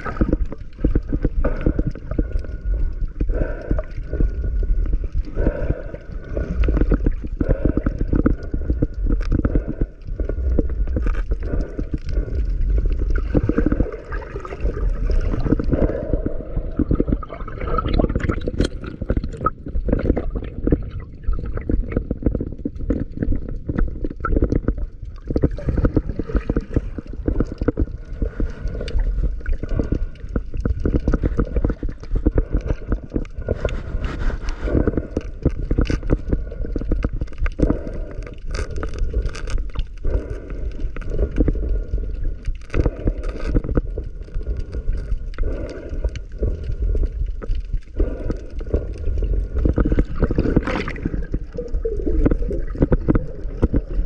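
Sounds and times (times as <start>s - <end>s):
underwater water churning: 0.0s - 54.0s.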